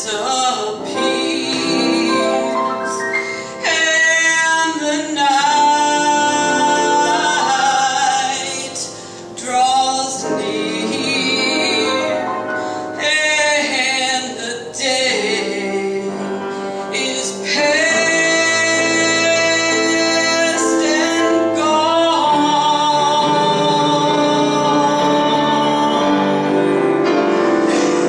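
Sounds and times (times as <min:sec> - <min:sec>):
woman singing a hymn: 0:00.0 - 0:26.8
piano accompaniment: 0:00.0 - 0:28.0.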